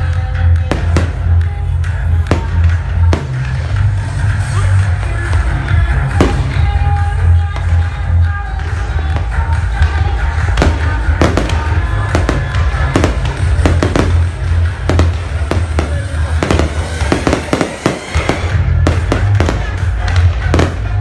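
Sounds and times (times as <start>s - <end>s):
music with heavy bass: 0.0s - 21.0s
fireworks bangs: 0.6s - 4.1s, 5.4s - 7.8s, 9.1s - 21.0s.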